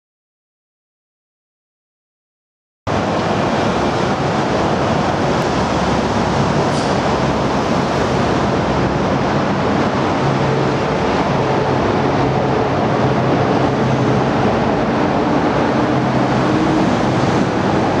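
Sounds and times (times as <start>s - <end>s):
distant road and rail traffic: 2.9s - 18.0s
wind: 2.9s - 18.0s.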